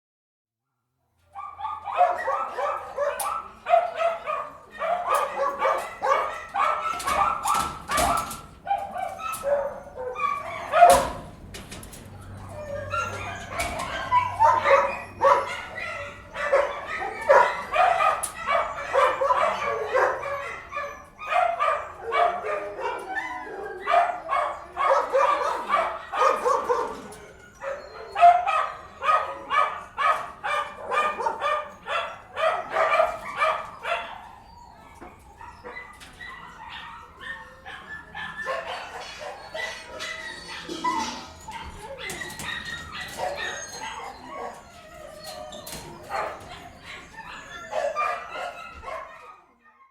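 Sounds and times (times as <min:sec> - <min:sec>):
dogs barking indoors: 0:01.2 - 0:49.9.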